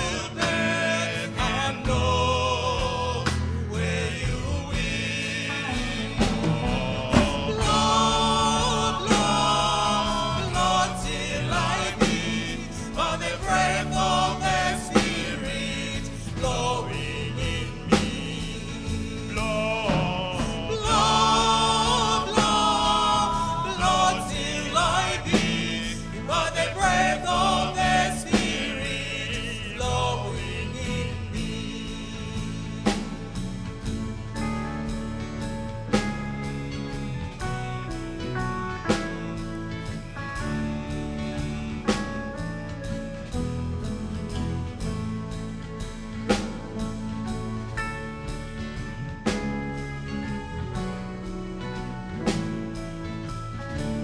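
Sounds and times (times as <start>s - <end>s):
choir singing a hymn: 0.0s - 54.0s
instrumental accompaniment: 0.0s - 54.0s.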